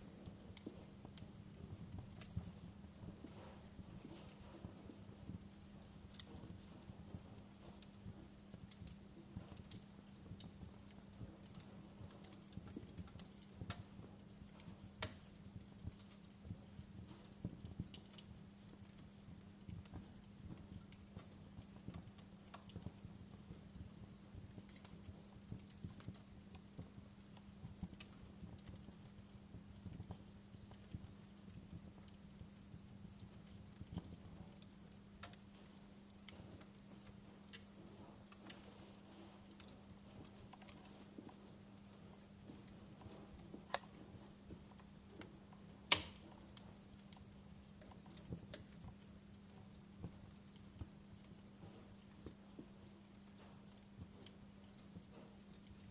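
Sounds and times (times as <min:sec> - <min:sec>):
steady low hum: 0:00.0 - 0:55.9
wood fire crackling: 0:00.0 - 0:55.9
fire pops: 0:00.1 - 0:55.9.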